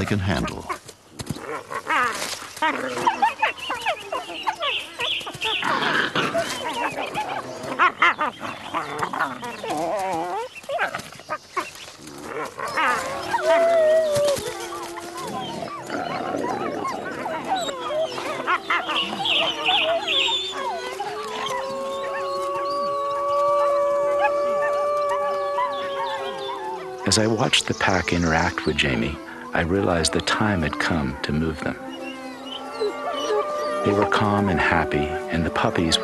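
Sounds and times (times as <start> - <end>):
wolves growling and whining: 1.4 - 36.0
wolf howling: 1.5 - 11.0, 12.0 - 36.0.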